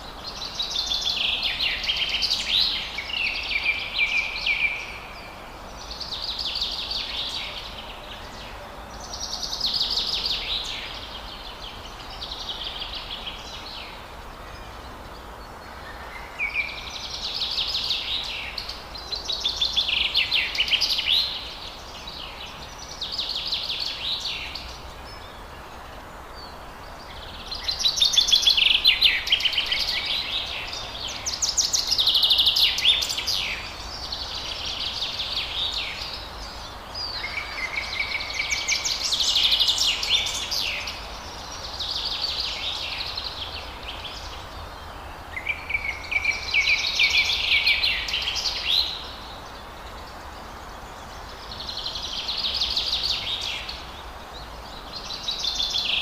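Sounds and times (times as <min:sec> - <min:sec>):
low background hiss: 0:00.0 - 0:56.0
songbirds chirping: 0:00.0 - 0:56.0.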